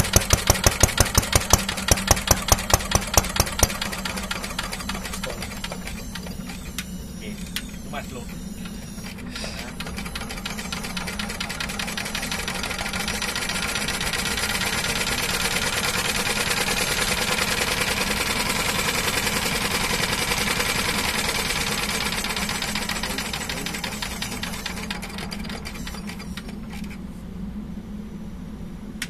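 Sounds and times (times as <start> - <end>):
single-cylinder engine running: 0.0 - 27.0.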